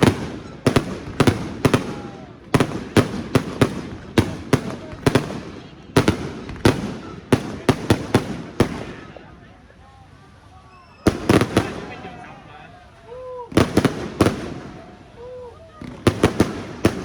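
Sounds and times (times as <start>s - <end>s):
fireworks bangs echoing: 0.0s - 9.4s, 10.9s - 12.8s, 13.5s - 15.1s, 15.7s - 17.0s.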